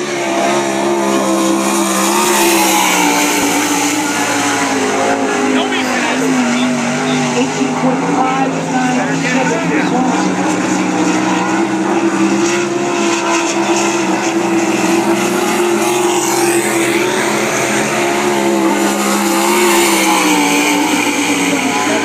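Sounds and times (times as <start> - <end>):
race car engine drone: 0.0 - 22.0.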